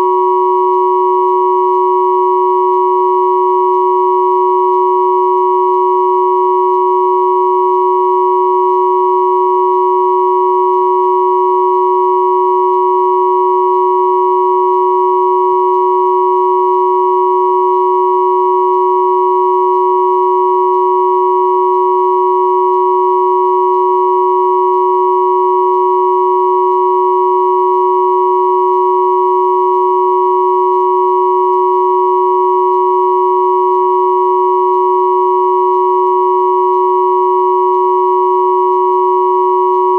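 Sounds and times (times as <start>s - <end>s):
steady sine tone chord: 0.0s - 39.9s.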